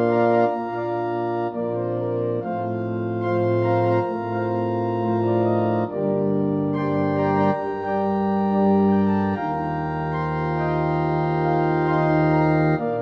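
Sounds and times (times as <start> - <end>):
slow music of sustained chords: 0.0 - 13.0.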